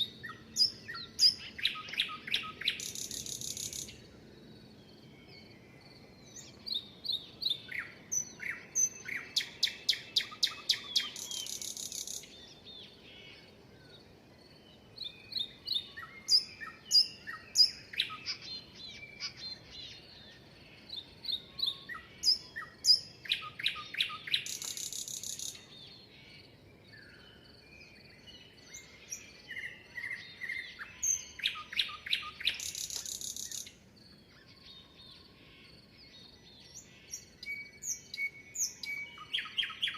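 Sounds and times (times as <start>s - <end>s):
faint steady hiss: 0.0s - 34.5s
songbirds singing: 0.0s - 39.9s.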